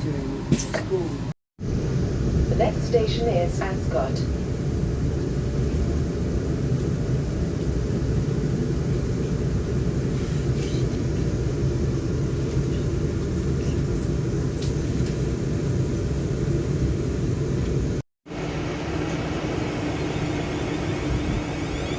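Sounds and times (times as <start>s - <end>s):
electric train rumbling: 0.0s - 21.9s.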